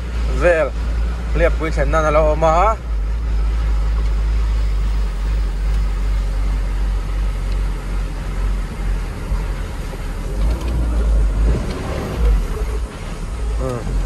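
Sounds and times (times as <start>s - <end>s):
tyres on rough road: 0.0s - 14.0s
vehicle engine rumble: 0.0s - 14.0s.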